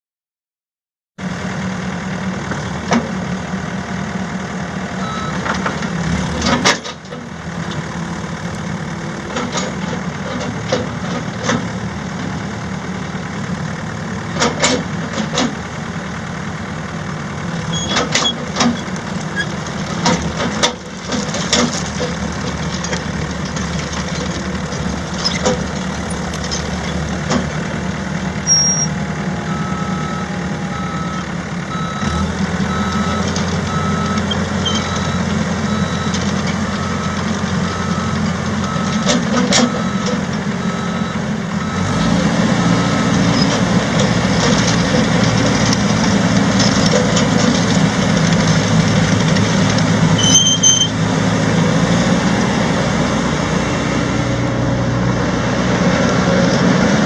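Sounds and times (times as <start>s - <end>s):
diesel engine running: 1.2s - 57.0s.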